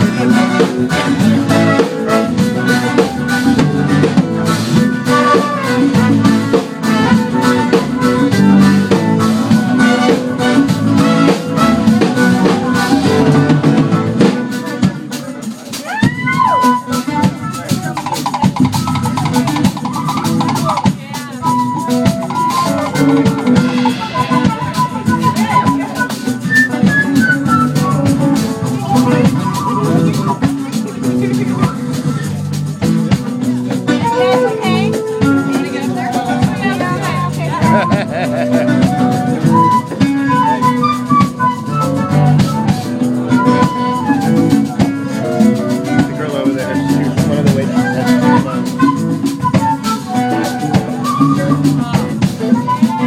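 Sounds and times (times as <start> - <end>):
drum kit: 0.0 - 53.0
flute melody: 0.0 - 53.0
guitars: 0.0 - 53.0
live band playing: 0.0 - 53.0.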